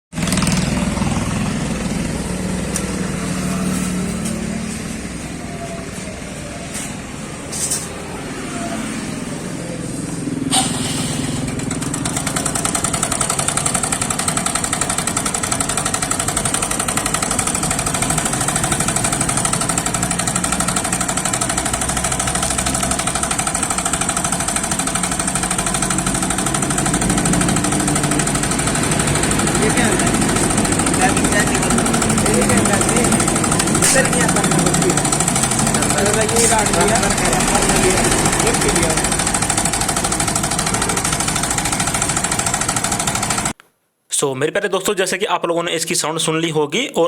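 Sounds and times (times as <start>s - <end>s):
fast metallic engine rattle: 0.1s - 5.4s, 10.3s - 43.5s
motorcycle engine running: 0.1s - 7.4s, 11.3s - 43.6s.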